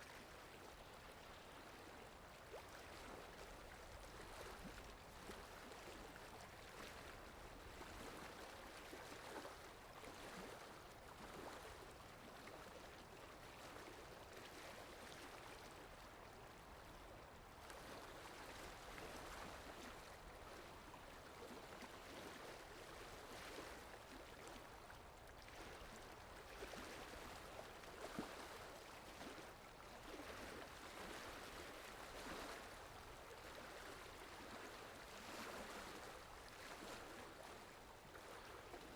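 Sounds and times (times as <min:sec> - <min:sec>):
running rippling water: 0:00.1 - 0:38.9.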